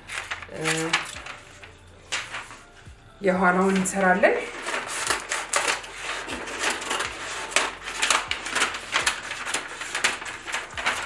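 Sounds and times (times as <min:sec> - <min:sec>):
stiff paper rustling and crinkling: 0:00.0 - 0:02.9, 0:03.5 - 0:11.0.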